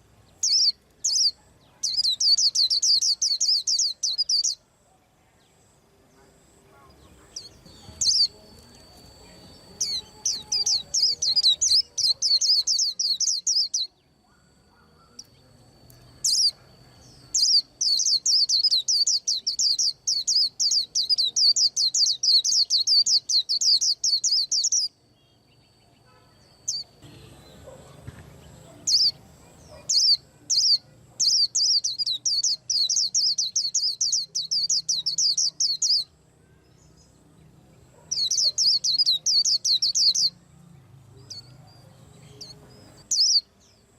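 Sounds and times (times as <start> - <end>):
bird singing rapid high chirps: 0.0 - 4.6, 7.1 - 25.9, 26.6 - 27.8, 28.5 - 36.2, 37.9 - 40.4, 41.2 - 43.9
faint high-pitched whine: 0.0 - 43.9.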